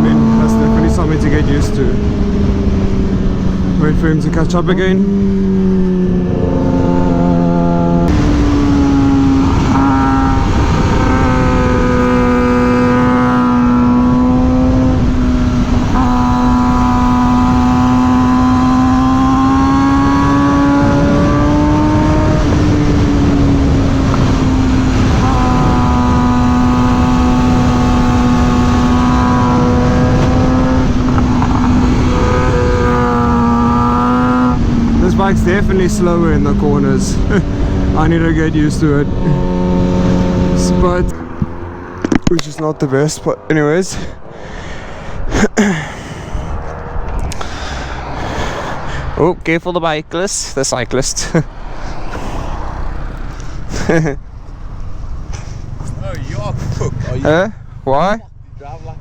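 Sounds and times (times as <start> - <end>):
motorcycle engine at high revs: 0.0 - 49.2, 52.9 - 59.0
wind rush: 0.0 - 50.2, 51.4 - 54.0.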